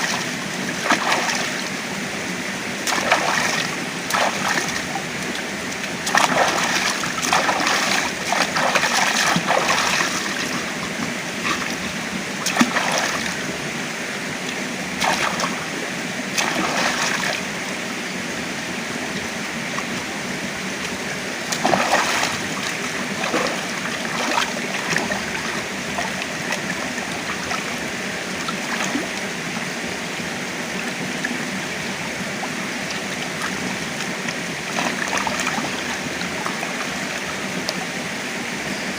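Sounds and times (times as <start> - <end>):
water rushing: 0.0 - 38.9
water splashes: 0.0 - 38.9.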